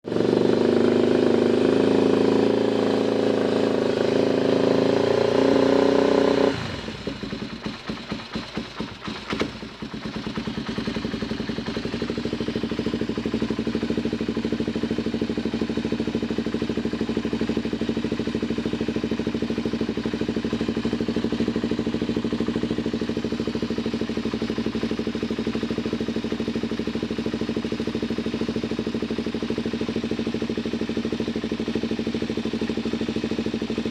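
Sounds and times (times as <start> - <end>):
motorcycle engine revving and idling: 0.0 - 33.9.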